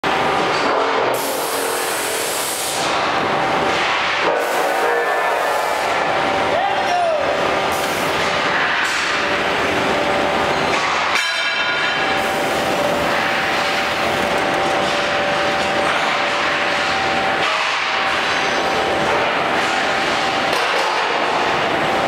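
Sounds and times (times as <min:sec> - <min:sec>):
punching machine running: 0:00.0 - 0:22.0
constant whine: 0:02.9 - 0:22.0.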